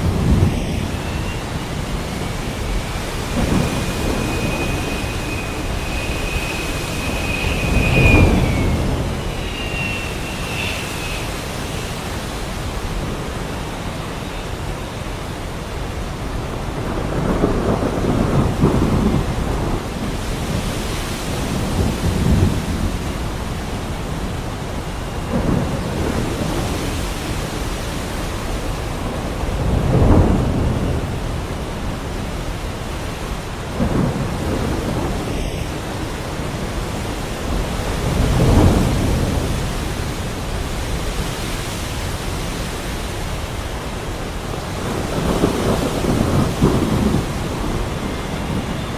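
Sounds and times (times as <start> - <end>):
thunder rumbling low: 0.0 - 15.0, 15.8 - 41.2, 42.0 - 48.9
heavy rain falling: 0.0 - 48.9.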